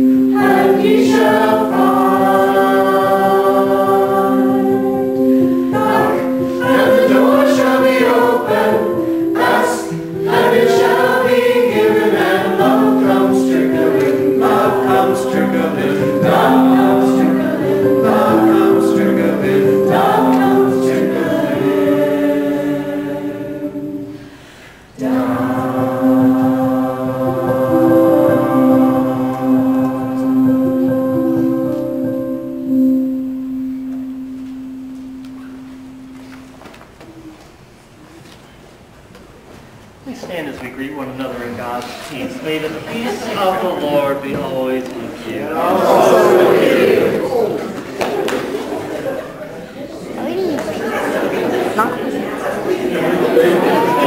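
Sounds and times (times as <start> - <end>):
choir singing a hymn: 0.0 - 33.2, 42.3 - 54.0.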